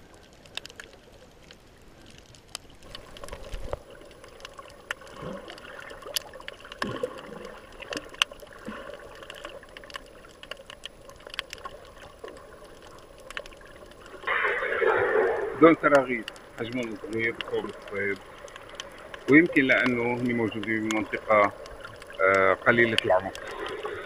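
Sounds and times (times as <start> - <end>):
sharp underwater clicks: 0.0 - 24.0
underwater gurgling water: 0.0 - 24.0.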